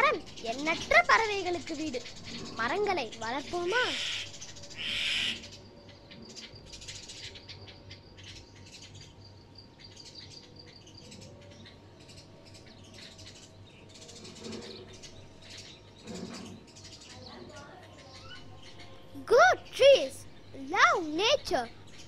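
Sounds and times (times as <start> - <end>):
sparrows chirping: 0.0 - 22.0.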